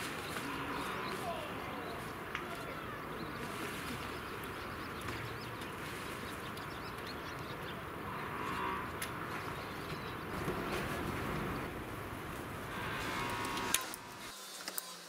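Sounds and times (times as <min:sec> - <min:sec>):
steady outdoor noise: 0:00.0 - 0:15.0.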